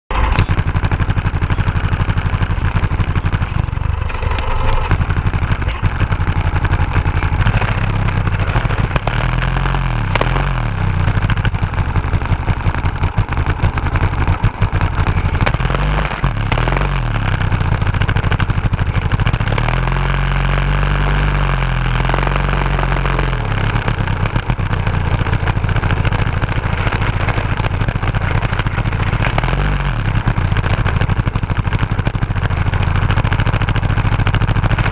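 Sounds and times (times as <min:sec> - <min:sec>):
small engine revving: 0:00.1 - 0:34.9.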